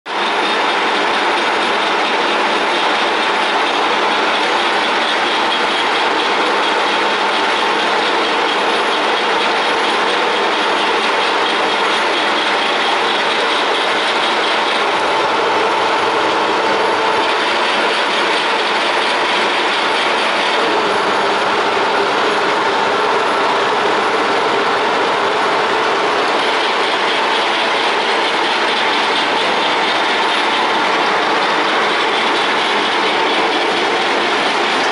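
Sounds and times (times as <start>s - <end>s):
boring machine gear whine and rattle: 0.1s - 34.9s.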